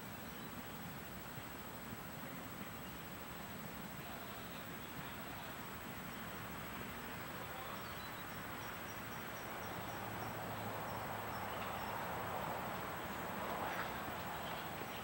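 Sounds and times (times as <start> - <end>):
insect chirping: 0.0 - 15.0
outdoor background hiss: 0.0 - 15.0.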